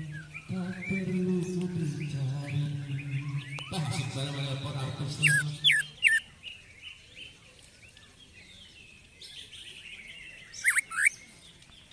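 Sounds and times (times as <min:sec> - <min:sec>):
bird chirps and twittering: 0:00.0 - 0:11.9.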